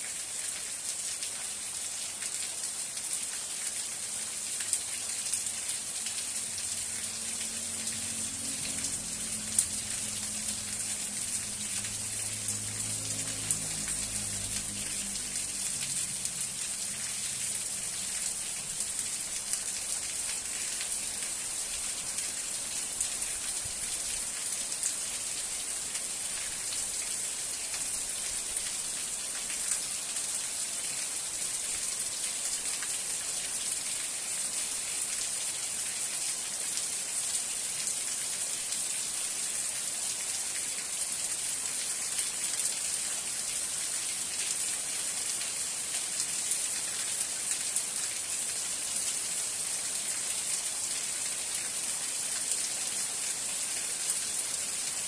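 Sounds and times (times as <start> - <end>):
raindrops striking close by: 0.0 - 55.0
steady rain: 0.0 - 55.0.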